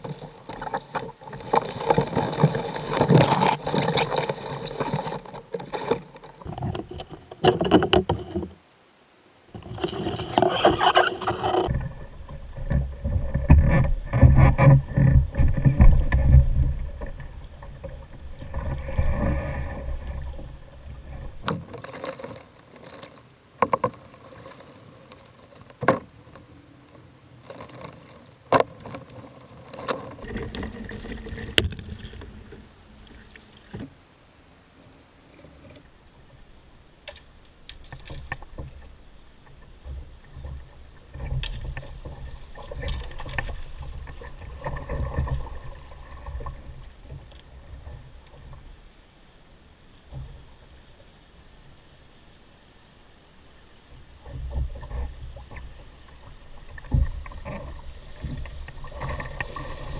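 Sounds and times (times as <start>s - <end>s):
rushing creek water: 0.0s - 59.9s.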